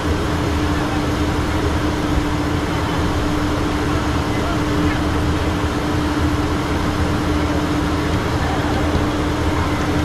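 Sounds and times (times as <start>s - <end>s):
airflow rushing over cockpit: 0.0s - 10.0s
low engine rumble: 0.0s - 10.0s
steady hum: 0.0s - 10.0s.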